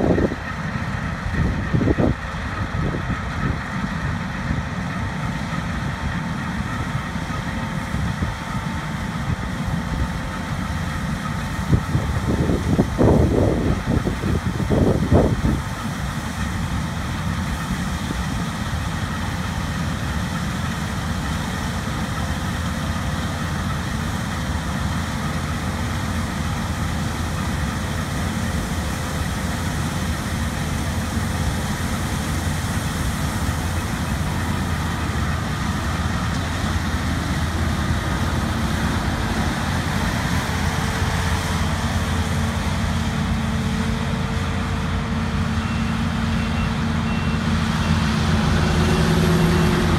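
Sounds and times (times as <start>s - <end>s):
diesel machinery engine rumble: 0.0s - 49.9s.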